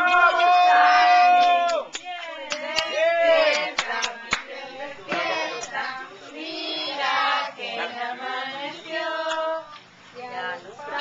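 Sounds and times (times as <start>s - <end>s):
group singing together: 0.0s - 11.0s.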